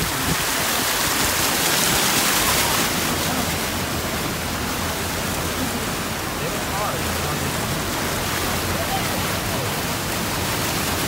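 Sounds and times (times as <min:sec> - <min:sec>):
floodwater splashing around car: 0:00.0 - 0:11.0.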